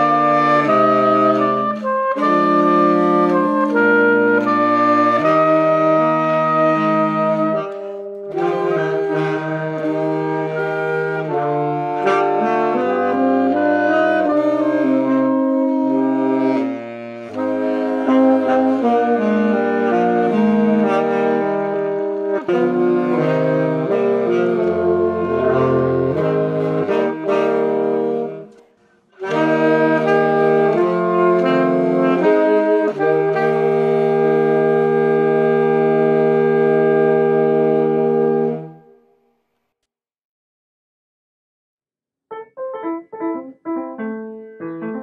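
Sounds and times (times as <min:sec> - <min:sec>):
saxophone quartet playing: 0:00.0 - 0:39.0, 0:42.3 - 0:45.0.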